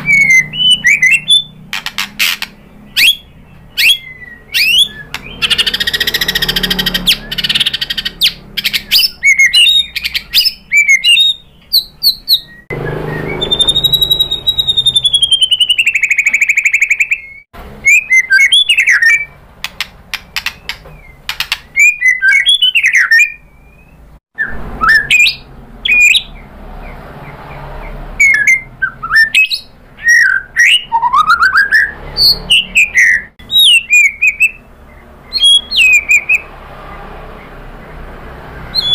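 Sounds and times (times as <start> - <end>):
bird singing whistles and chatter: 0.0 - 26.4, 28.2 - 34.7, 35.3 - 36.5, 38.6 - 38.9.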